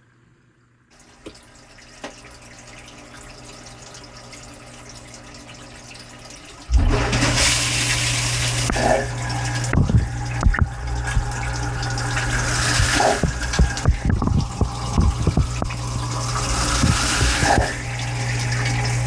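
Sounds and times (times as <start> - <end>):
wash pump humming: 0.9 - 19.0
water hissing into dishwasher: 1.0 - 19.0
water spraying inside dishwasher: 1.0 - 19.0.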